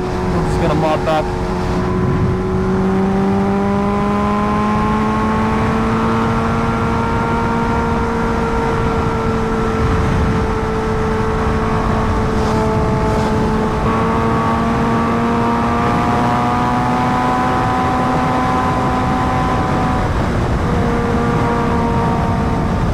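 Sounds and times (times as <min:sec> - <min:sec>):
motorcycle engine cruising: 0:00.0 - 0:22.9
wind and road noise: 0:00.0 - 0:22.9.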